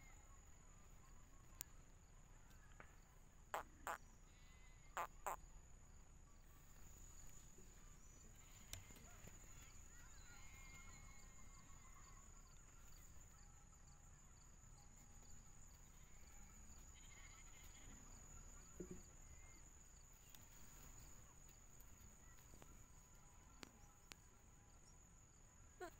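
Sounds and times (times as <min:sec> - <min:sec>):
night insects chirping: 0:00.0 - 0:25.9.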